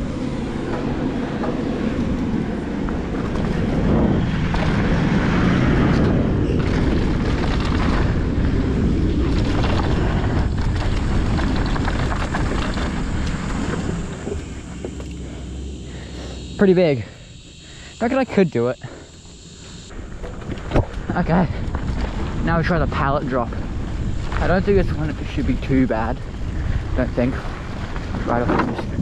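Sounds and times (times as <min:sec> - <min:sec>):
wind on microphone: 0:00.0 - 0:16.6, 0:19.9 - 0:29.0
bike tyres rolling on dirt: 0:00.0 - 0:29.0.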